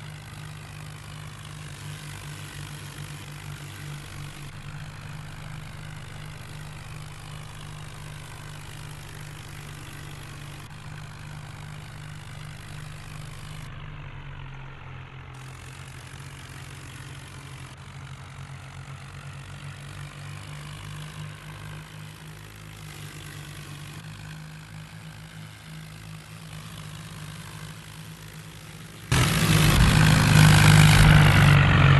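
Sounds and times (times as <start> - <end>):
tractor engine idling: 0.0 - 31.9.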